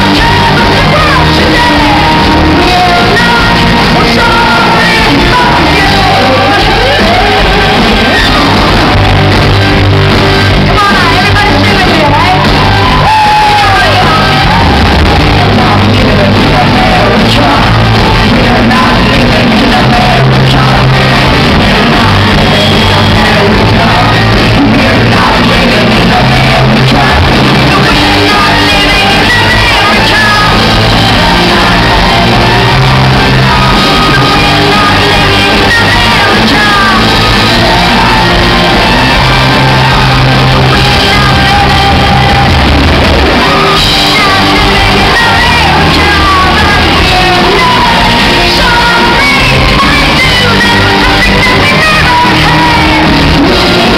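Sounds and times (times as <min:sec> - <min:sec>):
woman singing: 0:00.0 - 0:09.8, 0:10.5 - 0:42.7, 0:43.3 - 0:53.9
bass guitar: 0:00.0 - 0:53.9
drums: 0:00.0 - 0:53.9
electric guitar: 0:00.0 - 0:53.9.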